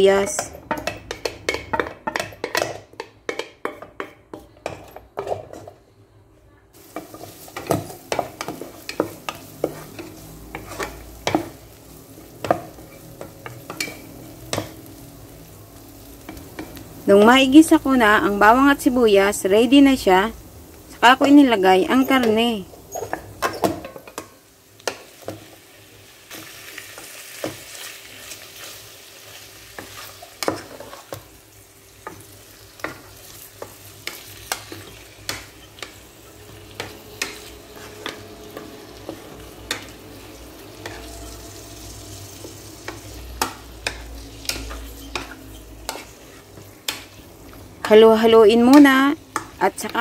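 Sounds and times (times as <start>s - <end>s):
meat sizzling in oil: 6.8s - 49.9s.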